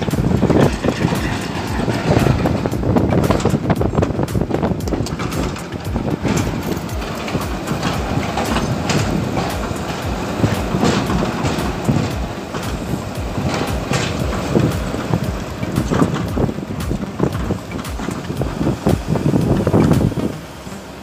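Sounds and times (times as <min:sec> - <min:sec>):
diesel engine rumbling: 0:00.0 - 0:21.0
excavator clanks and knocks: 0:00.0 - 0:21.0.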